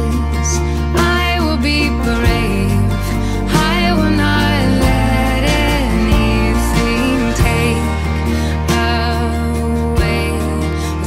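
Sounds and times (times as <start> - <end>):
melody with pitch glides: 0.0 - 11.0
steady bass: 0.0 - 11.0.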